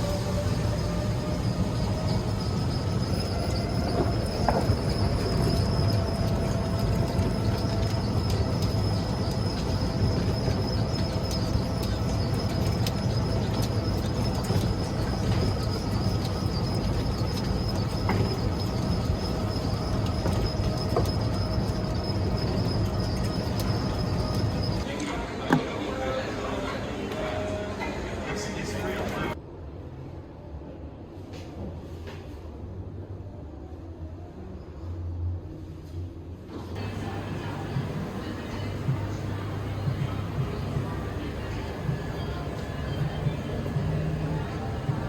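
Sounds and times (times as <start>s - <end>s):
train carriage low rumble: 0.0s - 45.0s.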